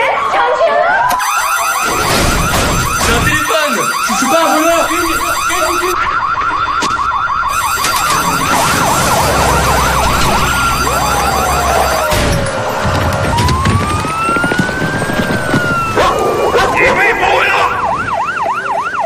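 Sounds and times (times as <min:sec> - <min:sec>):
police sirens: 0:00.0 - 0:19.0.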